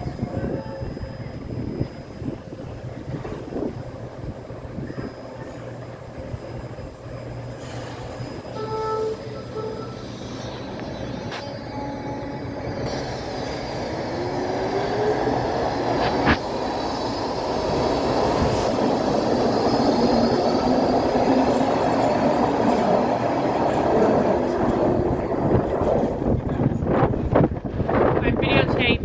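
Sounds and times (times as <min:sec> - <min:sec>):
subway train with rising whine: 0:00.0 - 0:29.0.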